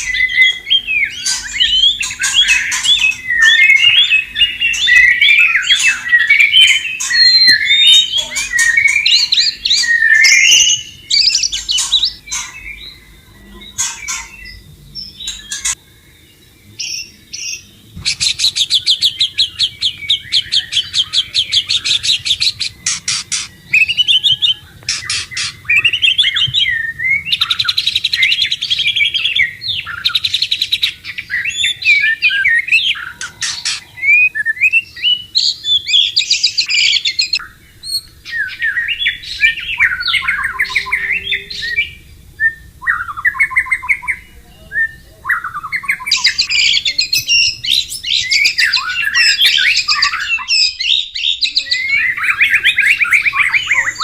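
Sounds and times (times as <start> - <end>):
bird singing varied warbled phrases: 0.0 - 54.0.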